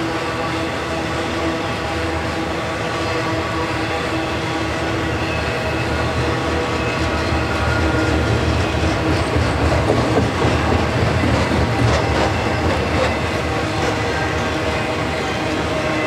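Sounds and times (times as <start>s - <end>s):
train wheels rumbling on rails: 0.0s - 16.0s
train cars clicking and clattering: 1.6s - 16.0s.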